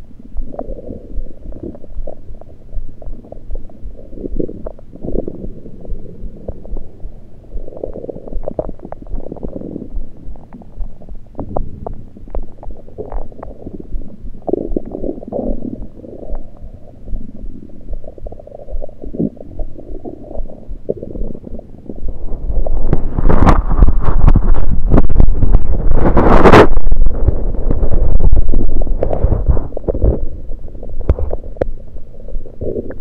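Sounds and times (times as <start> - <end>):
stomach gurgling: 0.0 - 33.0.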